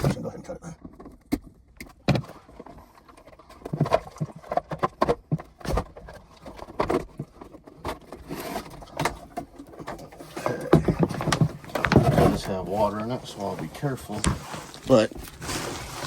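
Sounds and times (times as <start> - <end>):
light scraping on plastic: 2.1 - 16.0.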